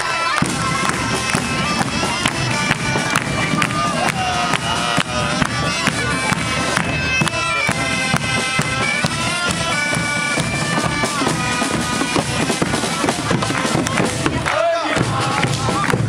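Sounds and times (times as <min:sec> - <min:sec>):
bagpipe melody: 0:00.0 - 0:15.9
steady drumbeat: 0:00.3 - 0:16.0.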